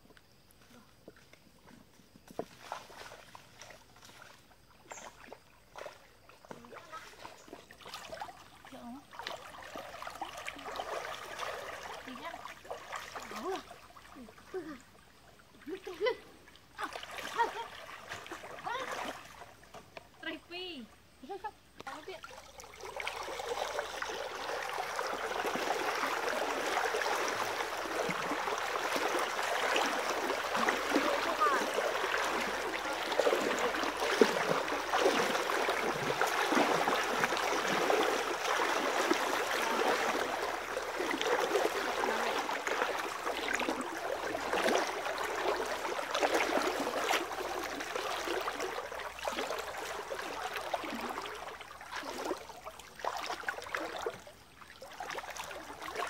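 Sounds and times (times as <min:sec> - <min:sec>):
wading through water: 0:00.0 - 0:56.0.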